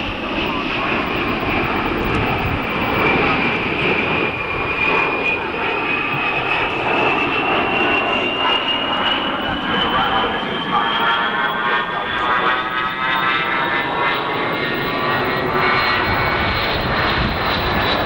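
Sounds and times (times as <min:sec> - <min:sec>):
jet passing overhead: 0:00.0 - 0:18.0.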